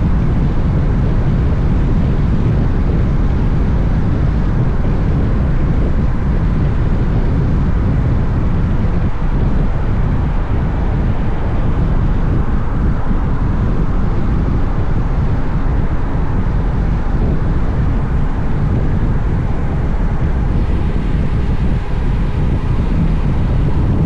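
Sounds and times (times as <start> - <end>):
motorcycle engine and road noise: 0.0 - 24.0
wind rush on microphone: 0.0 - 24.0.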